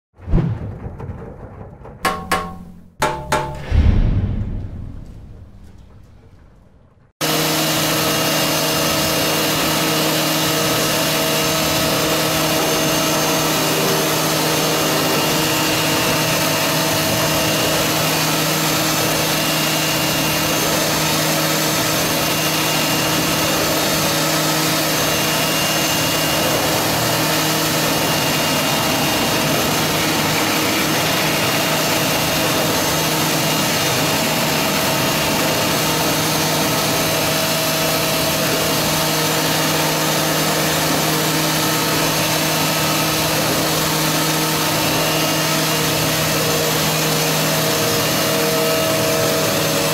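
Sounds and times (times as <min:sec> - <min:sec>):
machining center whirring: 0:02.2 - 0:49.9.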